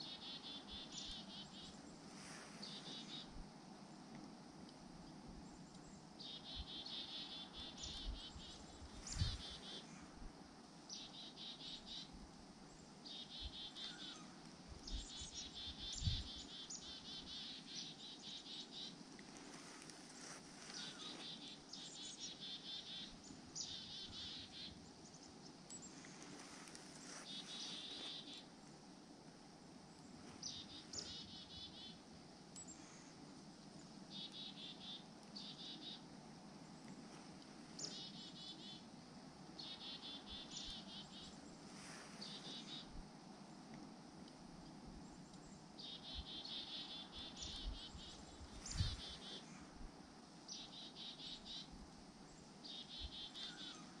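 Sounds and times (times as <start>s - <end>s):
small birds buzzy calls: 6.2s - 10.3s, 10.9s - 28.6s, 30.0s - 43.6s, 45.1s - 54.0s.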